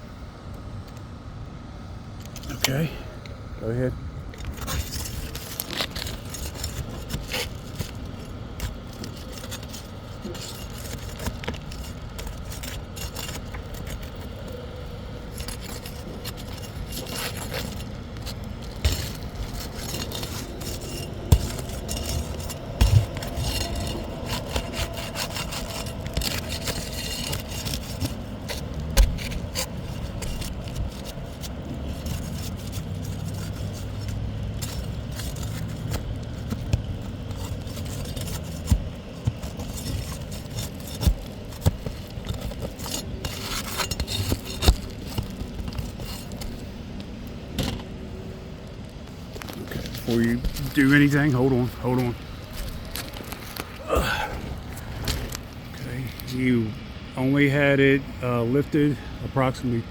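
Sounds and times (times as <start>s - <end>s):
tool scraping under shingles: 3.6s - 59.9s.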